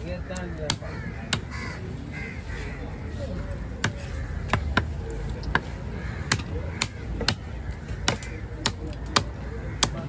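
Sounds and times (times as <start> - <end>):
low background murmur: 0.0 - 10.0.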